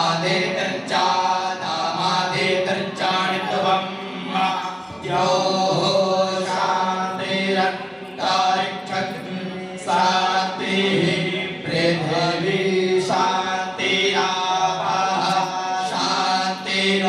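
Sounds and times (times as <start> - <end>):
voices chanting: 0.0 - 17.0.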